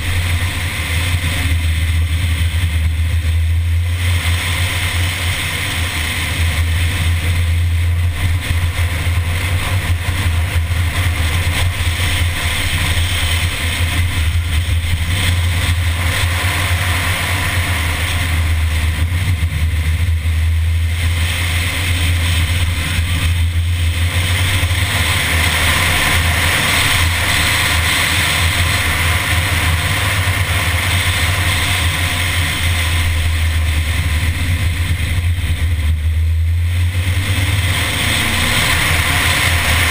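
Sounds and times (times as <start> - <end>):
car engine at speed: 0.0 - 39.9
heavy low rumble: 0.0 - 39.9
road noise: 0.0 - 39.9.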